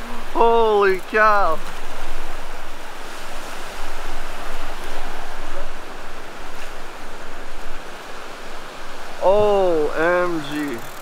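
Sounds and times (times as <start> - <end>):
surf washing on sandy beach: 0.0 - 11.0.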